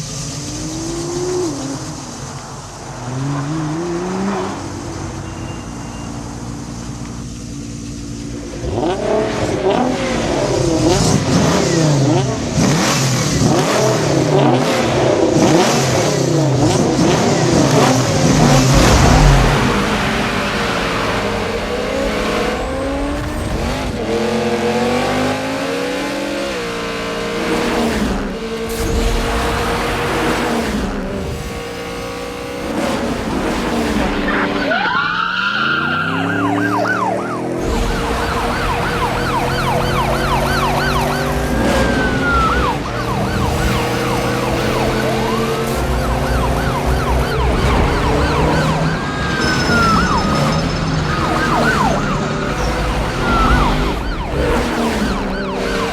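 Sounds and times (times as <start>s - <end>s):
car engines revving: 0.0s - 55.9s
police sirens wailing: 8.6s - 55.9s.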